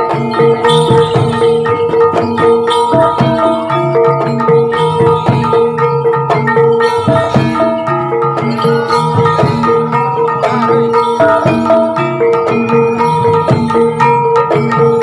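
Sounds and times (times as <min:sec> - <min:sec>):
tuned metal percussion notes: 0:00.0 - 0:15.0.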